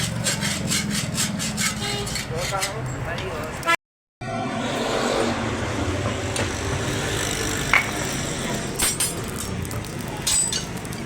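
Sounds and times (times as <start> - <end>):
workshop noise: 0.0 - 11.0.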